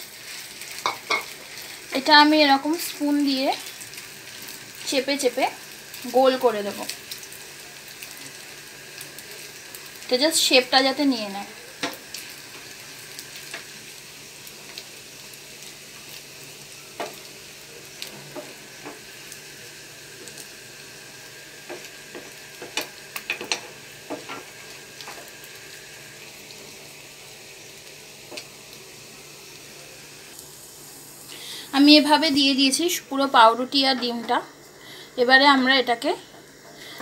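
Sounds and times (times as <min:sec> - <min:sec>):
mixture sizzling in hot oil: 0:00.0 - 0:37.0.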